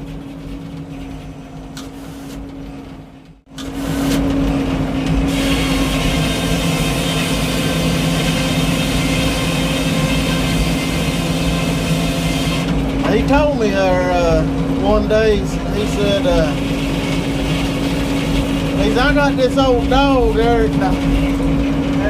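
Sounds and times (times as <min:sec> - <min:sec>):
sawmill engine humming: 0:00.0 - 0:22.0.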